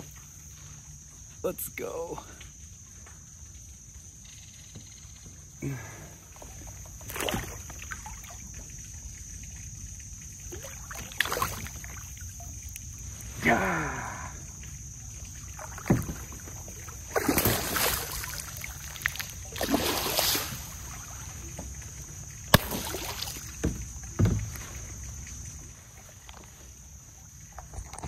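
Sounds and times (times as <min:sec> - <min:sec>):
paddle splashing water: 0:04.7 - 0:13.6, 0:14.3 - 0:28.0.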